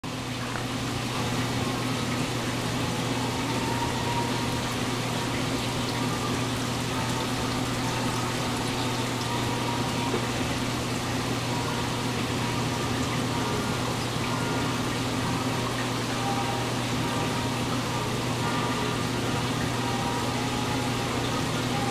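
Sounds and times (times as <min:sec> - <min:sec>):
aquarium pump hum: 0:00.0 - 0:21.9
water rushing and bubbling: 0:00.1 - 0:21.9.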